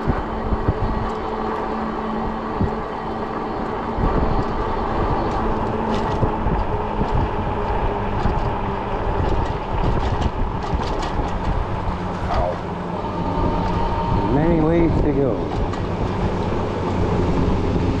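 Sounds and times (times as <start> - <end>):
electric bike rolling rumble: 0.0 - 18.0
wind buffeting microphone: 0.0 - 18.0.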